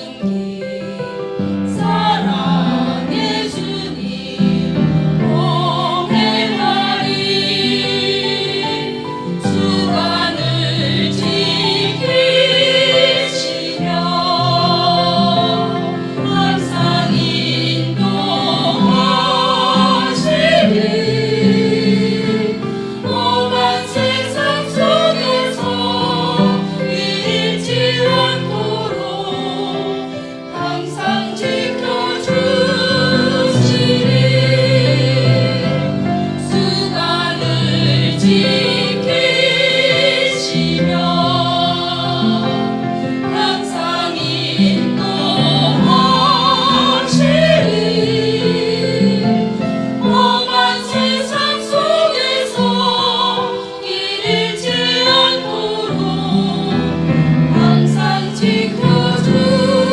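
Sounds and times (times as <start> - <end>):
vocal ensemble singing a hymn: 0.0 - 59.9.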